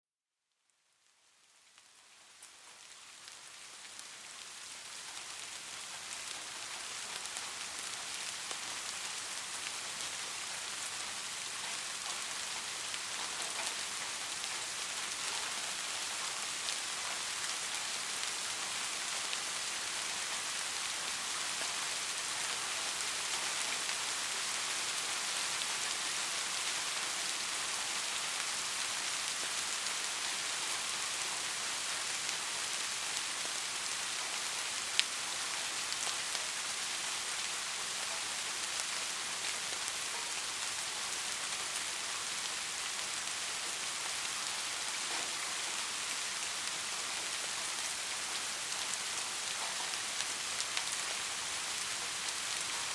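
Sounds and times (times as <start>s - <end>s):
steady rain hiss: 0.4s - 52.9s.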